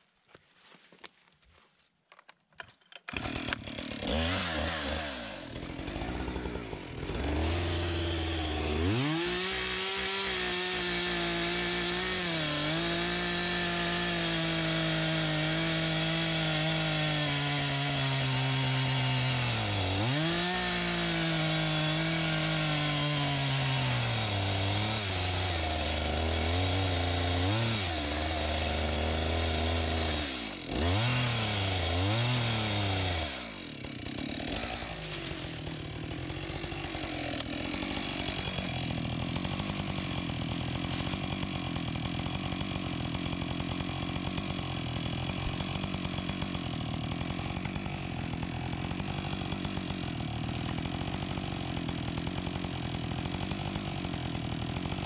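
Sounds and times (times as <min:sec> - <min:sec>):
chainsaw revving and cutting: 0:03.1 - 0:55.0.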